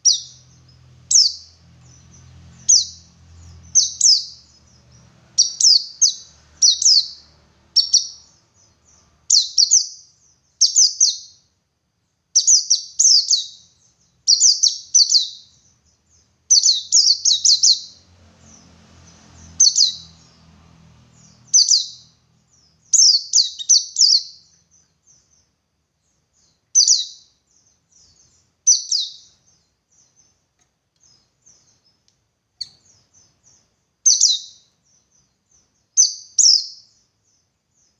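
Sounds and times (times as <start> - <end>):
bird twittering chirps: 0.0 - 11.5, 12.3 - 30.4, 31.0 - 37.9.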